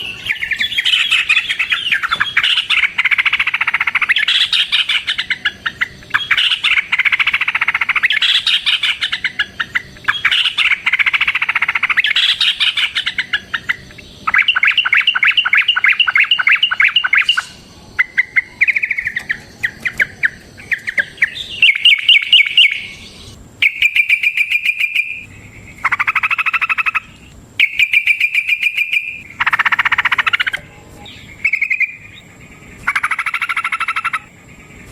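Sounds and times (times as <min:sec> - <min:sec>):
bird singing chattering song: 0:00.0 - 0:34.9.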